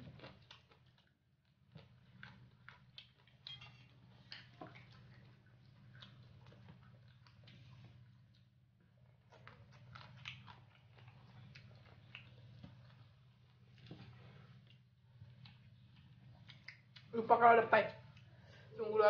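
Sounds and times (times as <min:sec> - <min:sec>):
chewing: 0:00.0 - 0:17.2
eating by hand: 0:00.0 - 0:17.2
low steady hum: 0:00.0 - 0:19.0.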